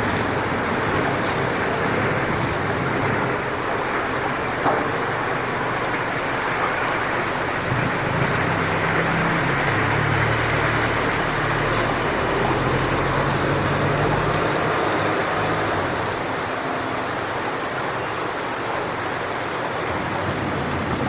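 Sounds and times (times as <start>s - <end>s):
low engine-like hum: 0.0s - 17.8s
wind rushing through palm fronds: 0.0s - 21.0s.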